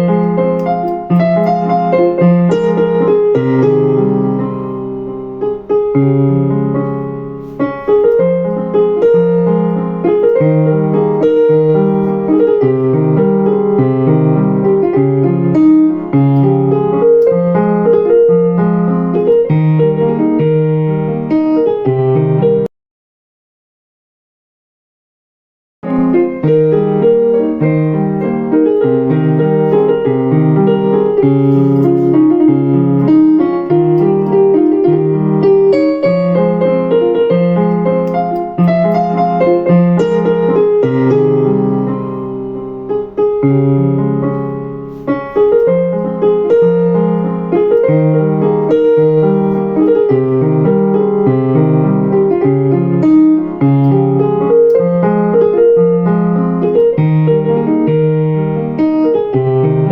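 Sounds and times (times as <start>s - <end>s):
keyboard piano piece: 0.0s - 22.7s, 25.8s - 59.9s.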